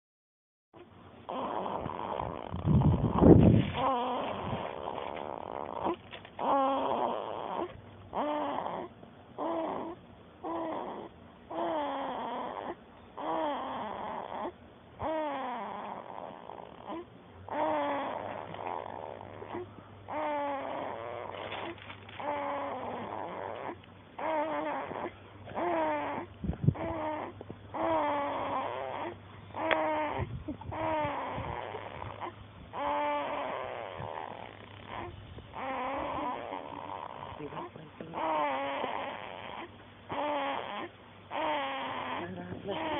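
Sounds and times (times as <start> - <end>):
baby snoring squeakily: 0.8 - 42.9.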